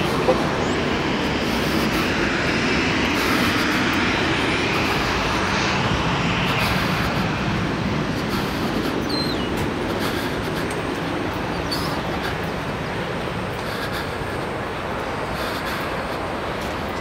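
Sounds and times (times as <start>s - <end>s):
loud engine noise: 0.0s - 17.0s.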